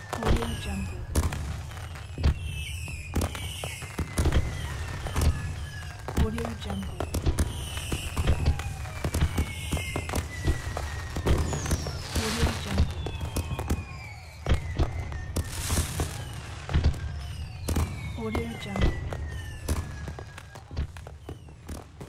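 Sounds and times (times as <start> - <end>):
fireworks bangs and pops: 0.0 - 22.0
fireworks crackle: 0.0 - 22.0
fireworks whistles sliding down: 0.0 - 22.0.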